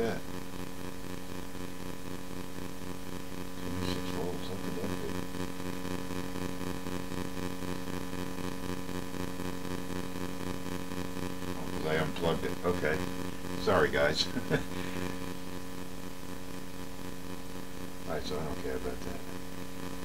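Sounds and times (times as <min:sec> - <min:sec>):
electrical buzz: 0:00.0 - 0:20.0.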